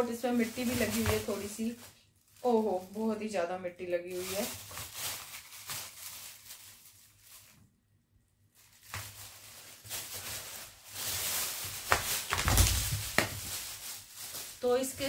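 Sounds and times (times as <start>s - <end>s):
plastic bag rustling: 0.0s - 7.8s, 8.5s - 15.0s.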